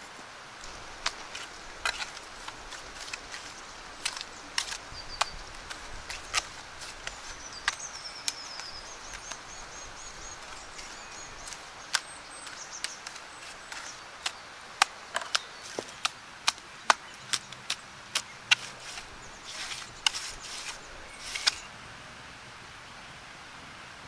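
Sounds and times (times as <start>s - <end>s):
songbird singing: 0.0s - 21.8s.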